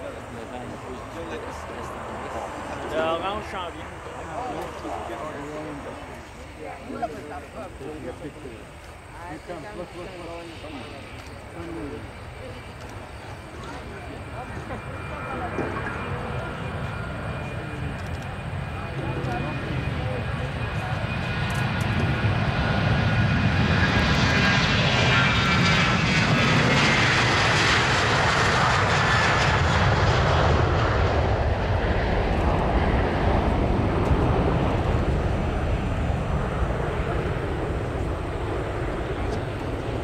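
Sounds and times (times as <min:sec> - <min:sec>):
jet engines roaring at takeoff: 0:00.0 - 0:40.0.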